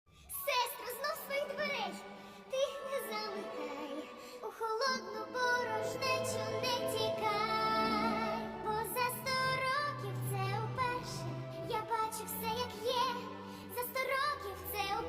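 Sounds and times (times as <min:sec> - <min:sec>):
woman singing with vibrato: 0:00.3 - 0:15.0.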